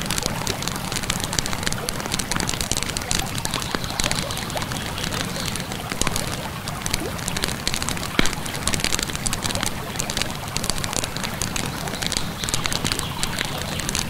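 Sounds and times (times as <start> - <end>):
bonfire crackling and popping: 0.0 - 14.0
flowing river water: 0.0 - 14.0.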